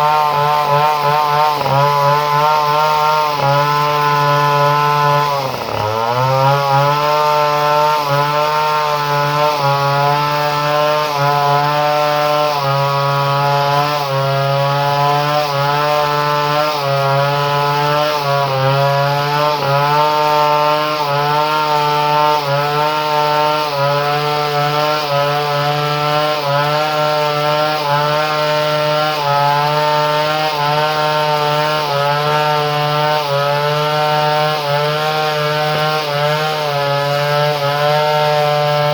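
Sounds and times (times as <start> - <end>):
chainsaw engine at high revs: 0.0 - 38.9.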